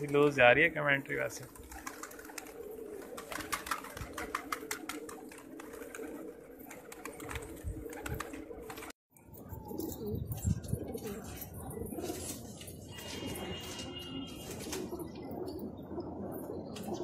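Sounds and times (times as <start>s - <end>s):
pigeons cooing: 1.5s - 17.0s.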